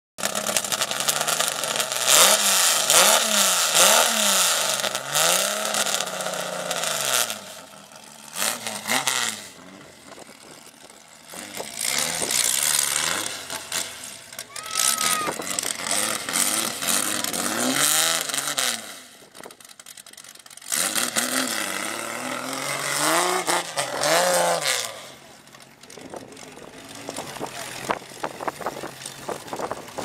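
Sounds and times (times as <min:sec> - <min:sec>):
buggy engine revving hard: 0:00.2 - 0:30.0.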